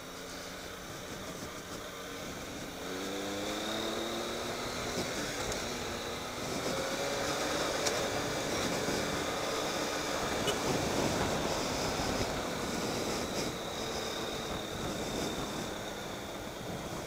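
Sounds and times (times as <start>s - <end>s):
motorcycle engine accelerating: 0.0s - 17.0s
wind rush: 2.2s - 17.0s.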